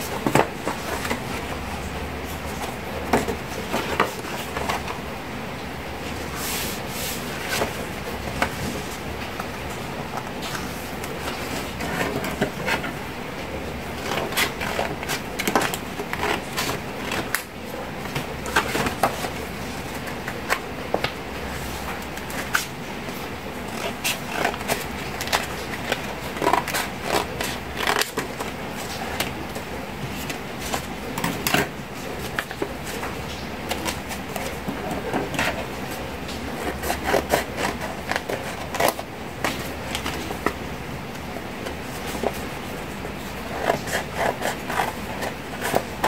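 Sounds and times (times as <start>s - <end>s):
paper rustling: 0.0s - 5.2s, 6.0s - 46.0s.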